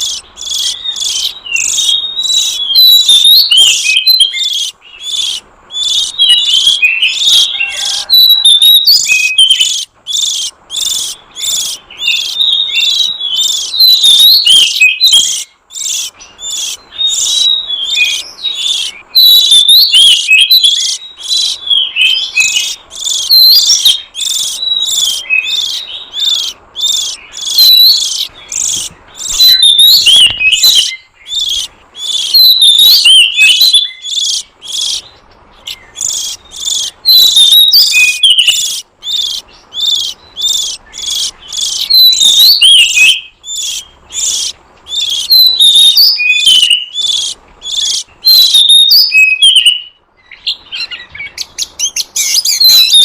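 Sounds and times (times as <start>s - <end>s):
bird calling harsh high notes: 0.0s - 50.0s.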